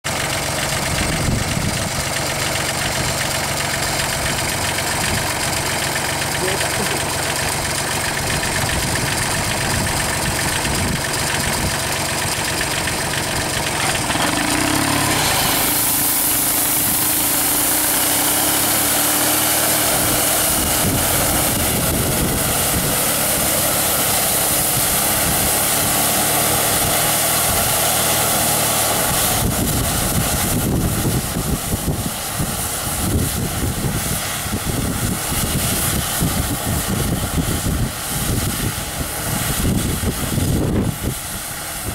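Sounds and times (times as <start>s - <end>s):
tractor engine running: 0.0s - 41.9s
uneven low rumbling: 0.4s - 41.9s
hiss of air and spray: 6.8s - 41.9s.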